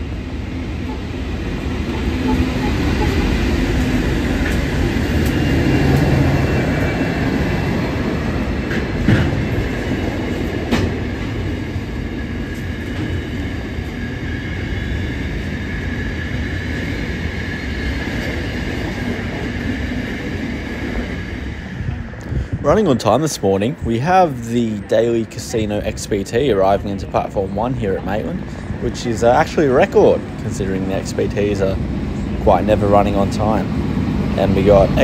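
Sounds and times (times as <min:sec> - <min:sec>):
diesel locomotive passing: 0:00.0 - 0:35.0
train wagons rumbling by: 0:00.0 - 0:35.0.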